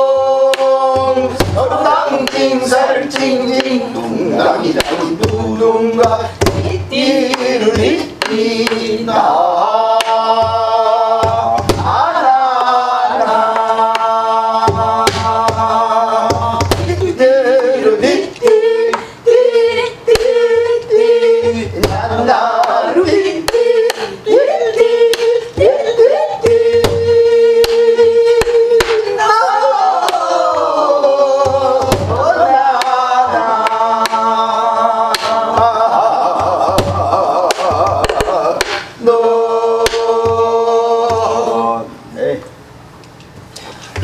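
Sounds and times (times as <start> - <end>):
person singing wordless syllables: 0.0 - 42.6.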